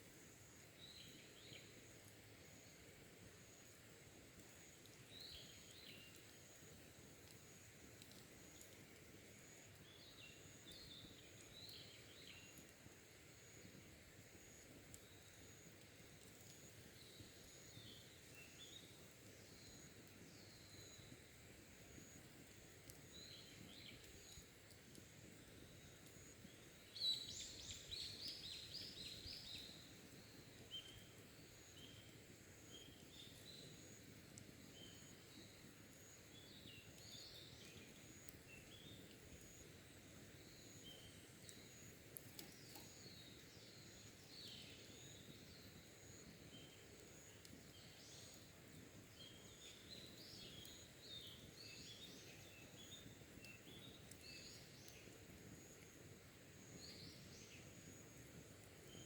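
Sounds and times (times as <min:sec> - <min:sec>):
soft steady hiss: 0:00.0 - 0:59.0.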